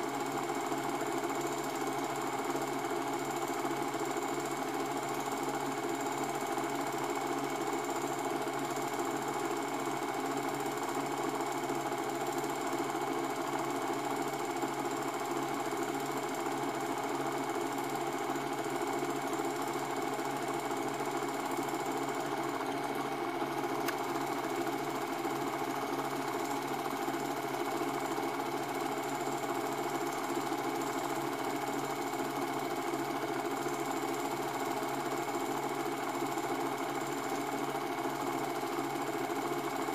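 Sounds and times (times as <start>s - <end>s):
film projector rattling: 0.0s - 39.9s.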